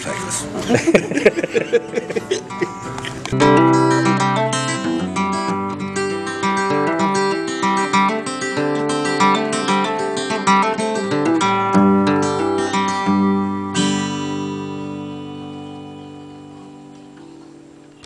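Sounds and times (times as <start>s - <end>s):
acoustic guitar picked notes: 0.0s - 18.0s
strummed guitar chord ringing: 0.9s - 18.0s.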